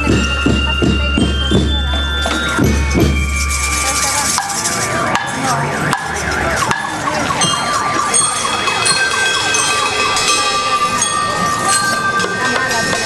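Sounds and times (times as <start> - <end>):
high bell-like notes: 0.0 - 13.0
rhythm band playing: 0.0 - 13.0.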